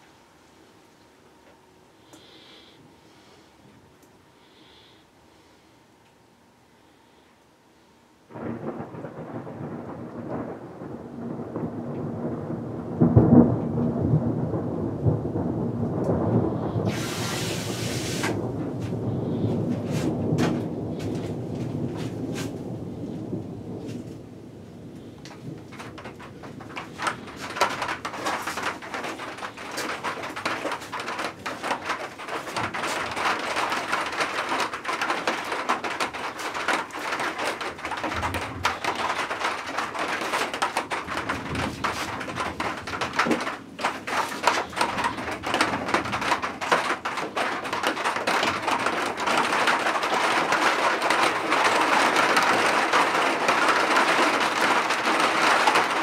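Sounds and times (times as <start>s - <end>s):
raindrops tapping on surface: 8.3s - 24.3s, 24.9s - 56.0s
heavy rain: 8.3s - 56.0s
low thunder rumble: 8.3s - 56.0s.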